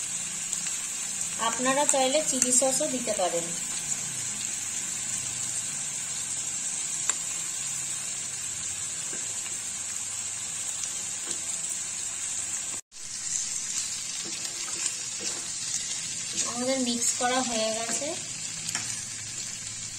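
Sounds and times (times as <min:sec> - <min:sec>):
oil sizzling in a wok: 0:00.0 - 0:19.9.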